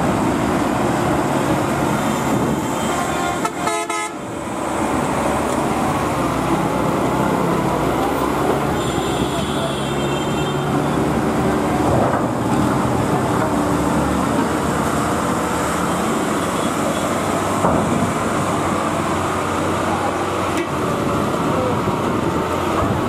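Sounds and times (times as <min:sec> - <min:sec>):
diesel engine rumble: 0:00.0 - 0:23.0.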